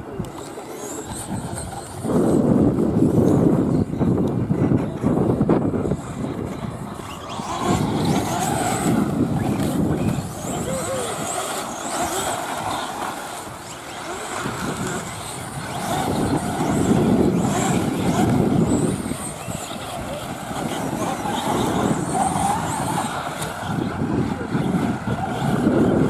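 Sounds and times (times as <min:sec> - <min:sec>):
radio-controlled cars racing on dirt: 0:00.0 - 0:26.0.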